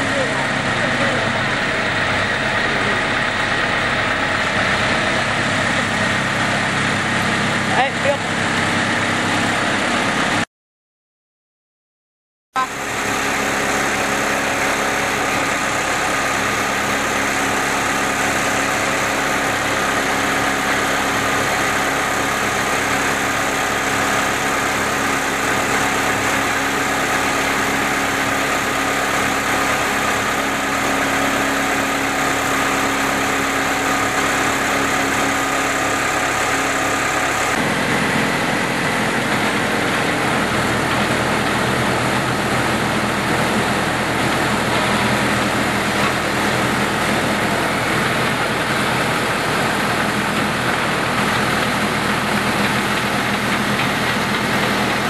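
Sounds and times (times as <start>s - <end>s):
drill rig machine hum: 0.0s - 10.5s, 12.6s - 55.0s.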